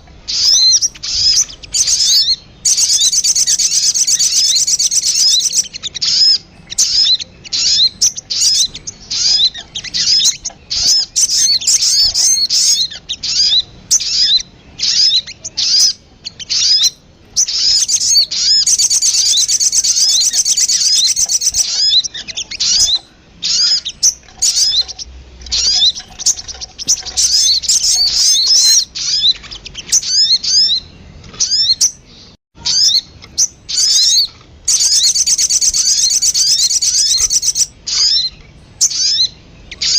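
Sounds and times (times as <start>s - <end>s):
recorded bird chirps and trills: 0.0s - 39.9s.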